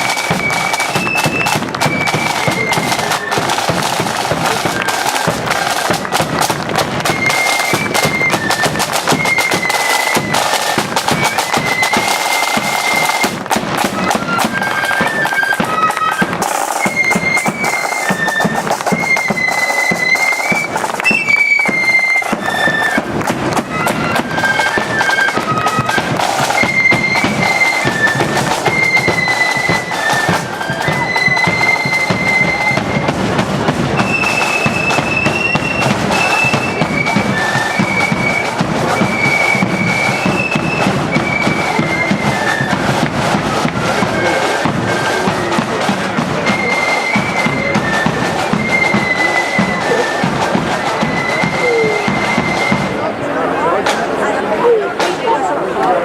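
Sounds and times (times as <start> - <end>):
drum beat: 0.0 - 53.0
flute band melody: 0.0 - 56.0.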